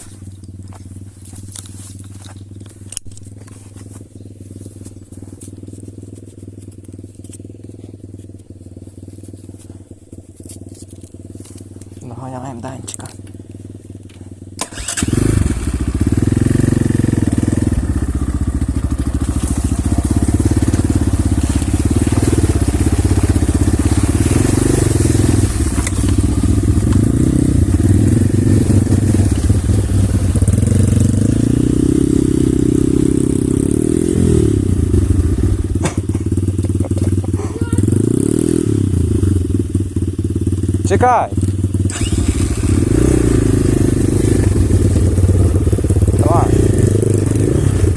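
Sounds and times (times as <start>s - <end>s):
motorbike engine revving: 0.0s - 47.9s.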